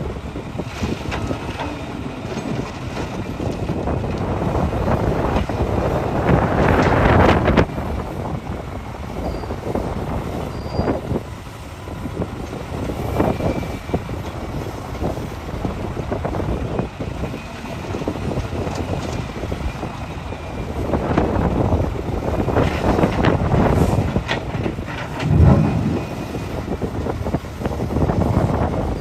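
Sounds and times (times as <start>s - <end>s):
excavator engine under load: 0.0s - 29.0s.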